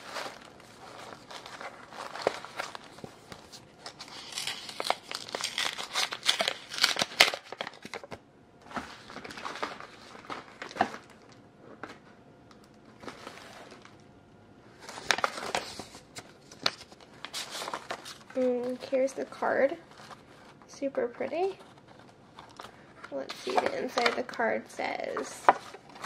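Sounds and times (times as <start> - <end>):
paper envelope crinkling: 0.0 - 12.0, 14.8 - 26.0.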